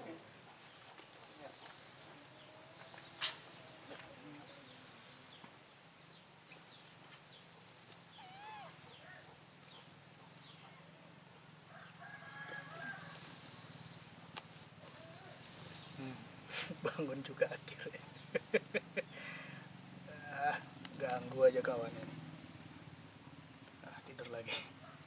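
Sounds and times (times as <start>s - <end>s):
birds chirping and calling: 0.5s - 22.3s.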